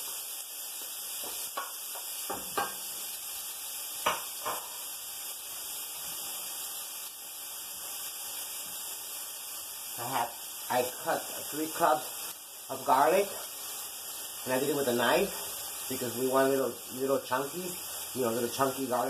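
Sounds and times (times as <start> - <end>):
onion sizzling in oil: 0.0 - 19.0.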